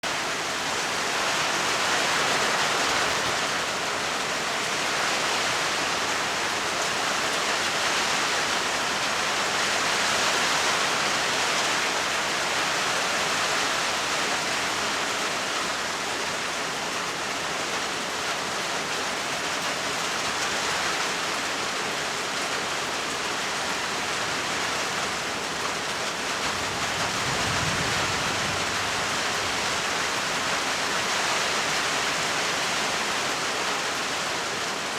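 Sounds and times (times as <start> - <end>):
heavy rainfall: 0.0 - 34.9.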